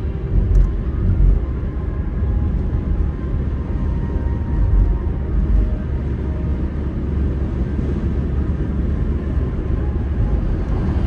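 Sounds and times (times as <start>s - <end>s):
car driving on road: 0.0s - 11.0s.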